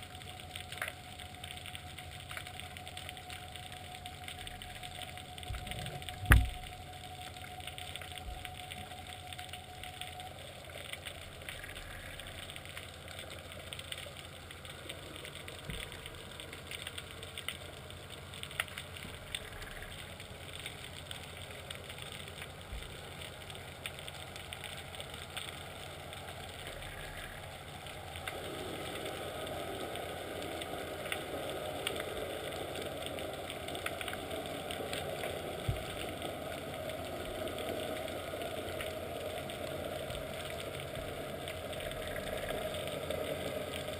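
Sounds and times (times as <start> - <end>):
boat engine throb underwater: 0.0 - 43.9.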